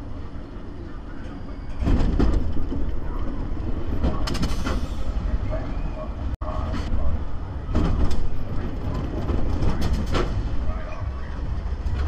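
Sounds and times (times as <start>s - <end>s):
roller coaster wheels rumbling: 0.0s - 12.0s.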